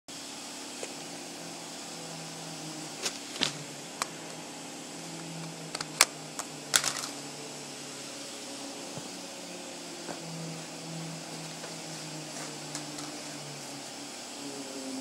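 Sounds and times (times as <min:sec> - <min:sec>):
low steady hum: 0:00.2 - 0:15.0.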